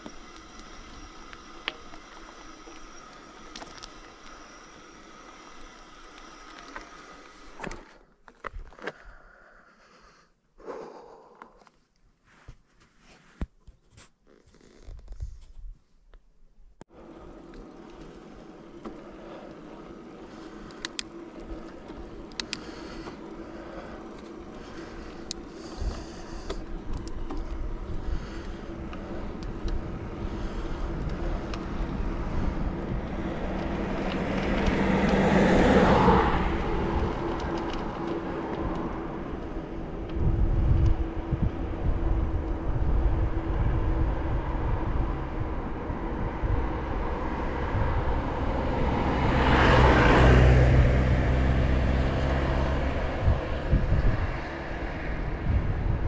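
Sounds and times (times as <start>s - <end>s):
vehicles passing by: 0.0s - 8.2s, 16.9s - 56.0s.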